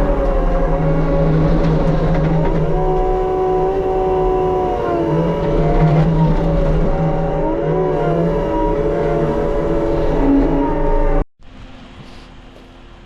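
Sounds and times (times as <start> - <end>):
mulching head working: 0.0 - 11.2.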